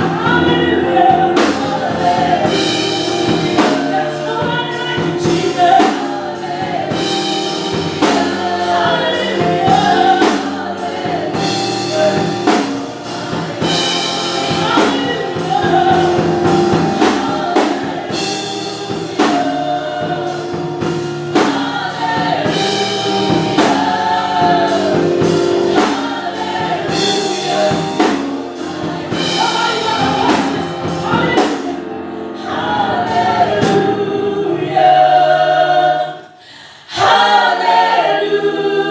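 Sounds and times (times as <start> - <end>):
drum kit beat: 0.0 - 31.9, 32.5 - 34.2
choir singing with band: 0.0 - 38.9.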